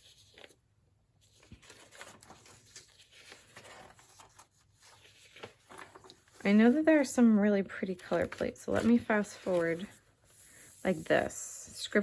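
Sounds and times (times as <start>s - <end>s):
paper pages rustling: 0.0s - 0.6s, 1.2s - 11.2s.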